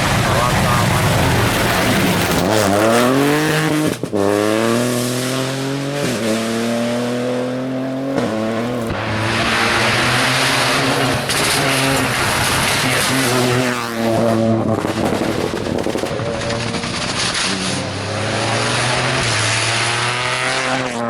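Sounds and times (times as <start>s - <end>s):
tyre and wind rushing: 0.0s - 20.1s
rally car engine accelerating: 0.0s - 21.0s.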